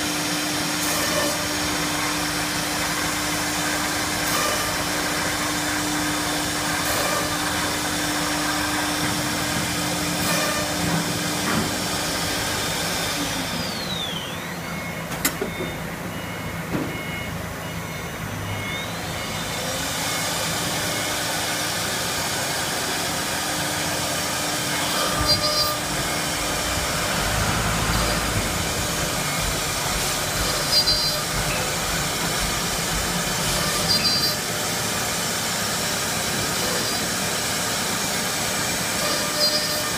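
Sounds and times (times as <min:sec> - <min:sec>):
cnc router whine and machining: 0:00.0 - 0:39.9.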